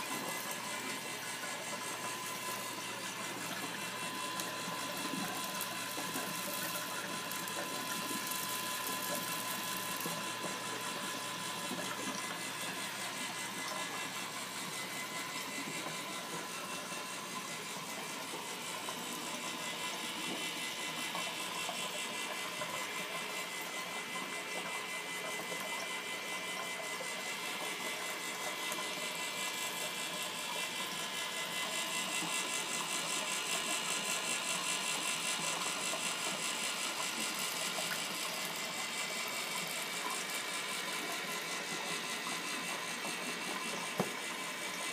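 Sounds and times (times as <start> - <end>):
electric motor humming: 0.0 - 44.9.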